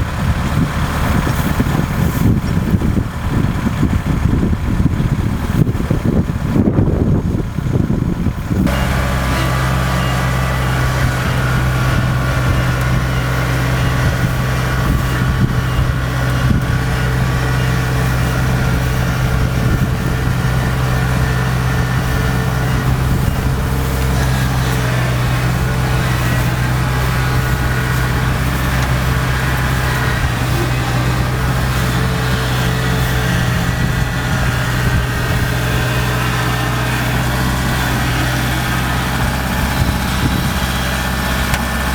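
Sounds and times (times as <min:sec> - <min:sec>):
diesel engine running steadily: 0:00.0 - 0:41.9.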